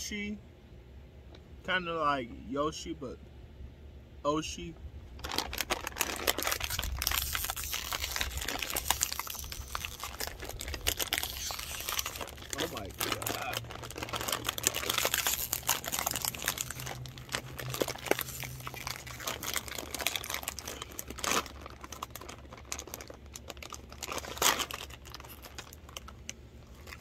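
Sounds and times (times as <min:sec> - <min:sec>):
plastic snack bag crinkling: 0:05.2 - 0:27.0.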